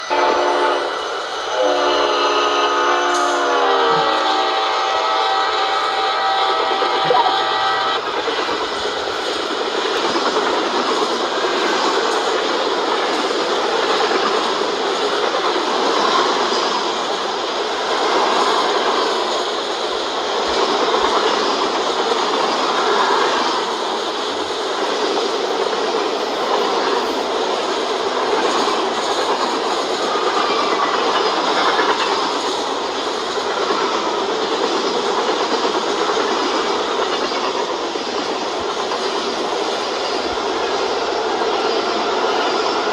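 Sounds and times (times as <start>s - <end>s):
freight train wheels rumbling: 0.0s - 42.9s.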